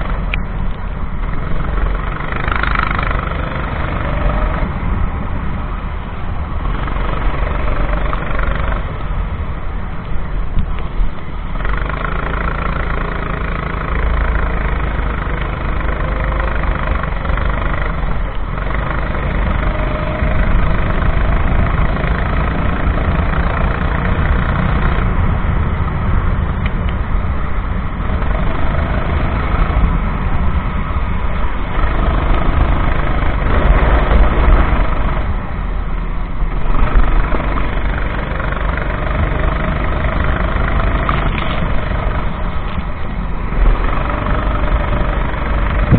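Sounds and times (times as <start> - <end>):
go-kart engine revving: 0.0 - 9.6, 11.4 - 45.9
heavy low rumble: 0.0 - 45.9.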